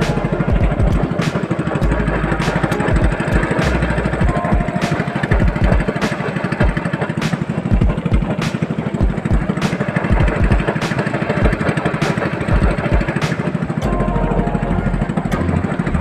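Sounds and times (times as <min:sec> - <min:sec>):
boat engine puttering: 0:00.0 - 0:16.0.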